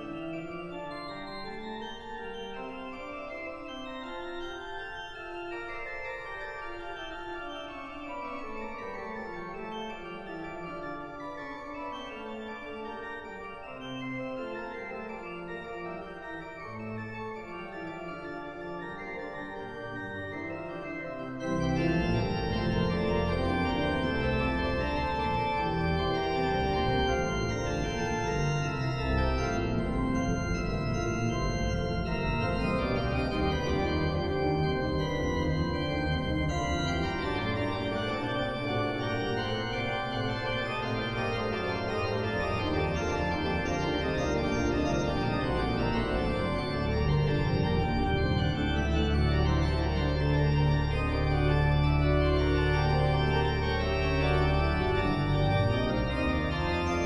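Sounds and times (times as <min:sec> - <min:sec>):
organ music: 0:00.0 - 0:57.0.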